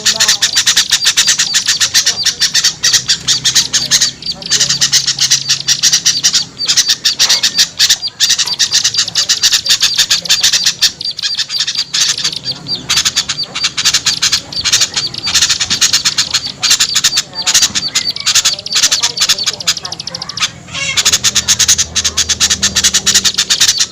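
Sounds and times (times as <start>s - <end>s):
small birds chattering: 0.0s - 23.9s.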